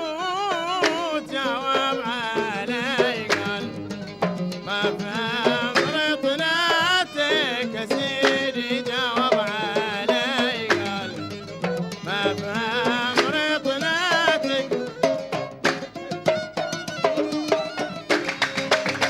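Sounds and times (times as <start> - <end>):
wavering violin melody: 0.0 - 19.0
hand drum strokes: 0.5 - 19.0.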